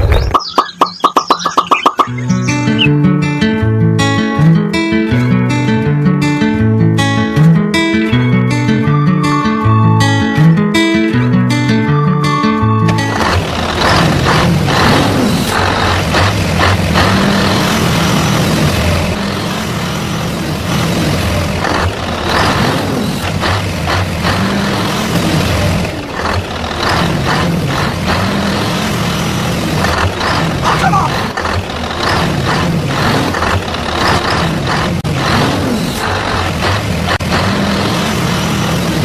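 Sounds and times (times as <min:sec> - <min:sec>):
truck engine droning: 0:00.0 - 0:39.0.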